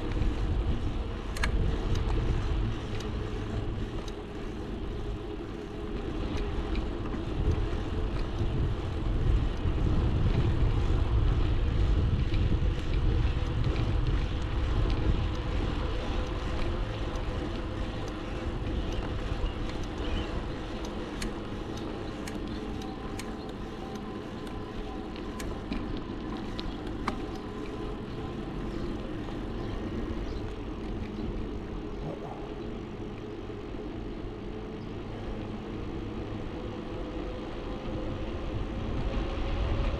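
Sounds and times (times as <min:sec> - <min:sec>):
road noise: 0:00.0 - 0:39.9
wind rumble on microphone: 0:00.0 - 0:39.9.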